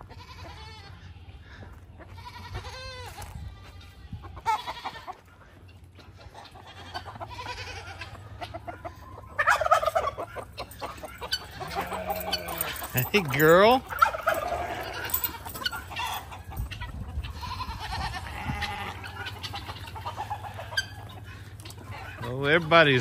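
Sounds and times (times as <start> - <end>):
farm animals calling: 0.0 - 23.0.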